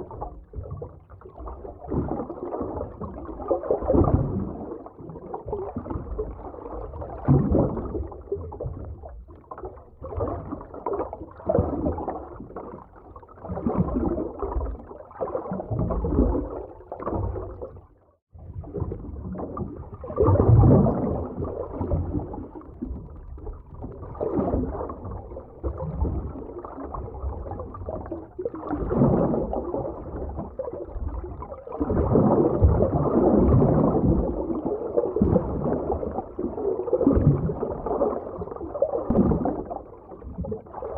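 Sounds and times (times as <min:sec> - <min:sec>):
underwater rushing and gurgling water: 0:00.0 - 0:40.9.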